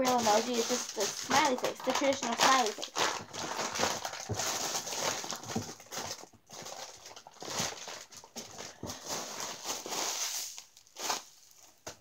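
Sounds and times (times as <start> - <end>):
rummaging through squishy toys: 0.0 - 12.0.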